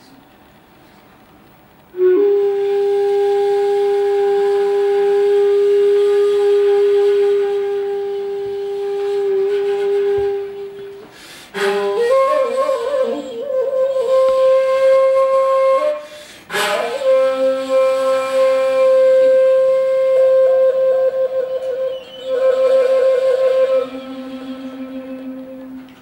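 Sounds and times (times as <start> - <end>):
bamboo flute playing: 1.8 - 26.0.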